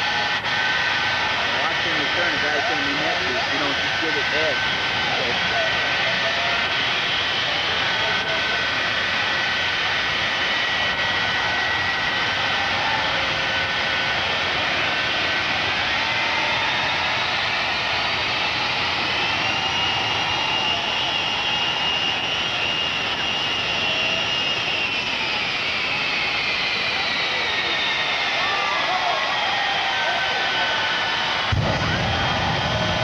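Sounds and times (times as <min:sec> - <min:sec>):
jet engines roaring with whine: 0:00.0 - 0:33.0.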